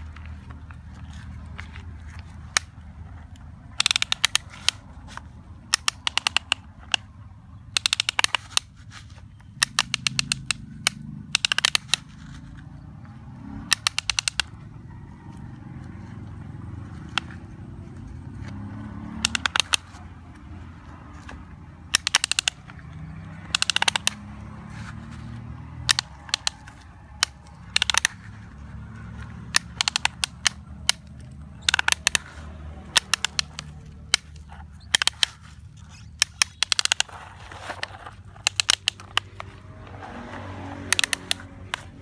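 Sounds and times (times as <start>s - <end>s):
plastic toy excavator clicking: 0.0s - 42.0s.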